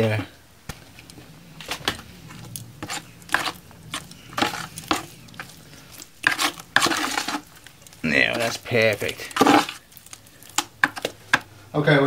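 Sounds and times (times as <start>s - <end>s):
plaster squelching in bucket: 0.7s - 11.6s.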